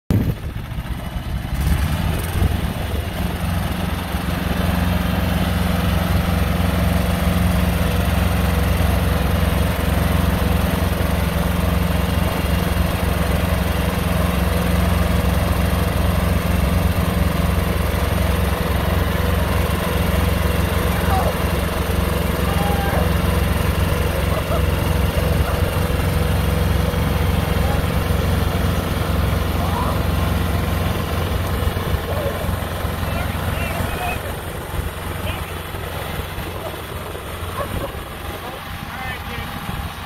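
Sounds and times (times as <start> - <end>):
tractor engine running under load: 0.1 - 40.0.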